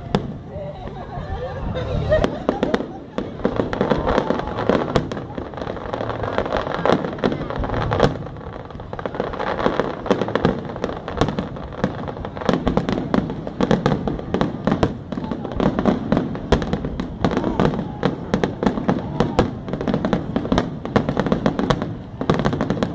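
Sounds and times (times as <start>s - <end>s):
fireworks bursting with bangs: 0.0s - 1.1s, 1.7s - 22.9s.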